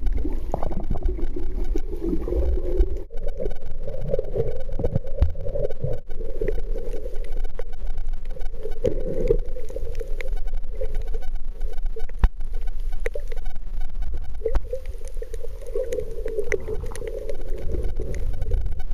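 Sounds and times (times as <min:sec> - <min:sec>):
underwater water rumble: 0:00.0 - 0:18.9.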